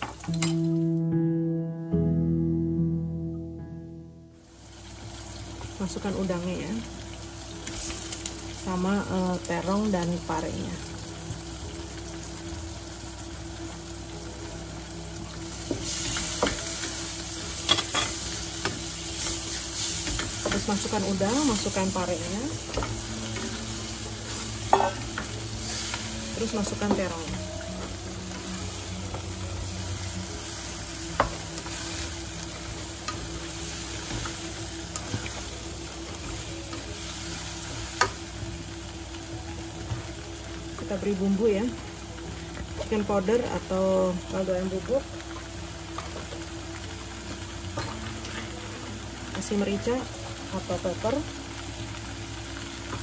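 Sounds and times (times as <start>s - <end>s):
food sizzling in a wok: 0.0s - 0.9s, 4.3s - 53.0s.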